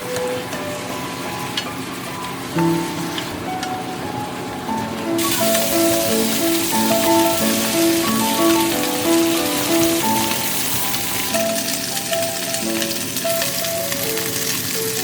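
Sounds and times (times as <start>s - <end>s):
slow held-note music: 0.0s - 15.0s
steady bright hiss: 0.0s - 15.0s.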